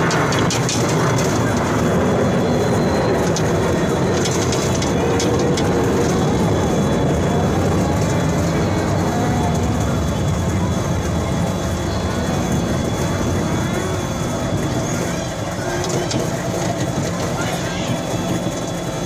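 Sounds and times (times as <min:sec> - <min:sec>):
monorail car rumbling: 0:00.0 - 0:19.0.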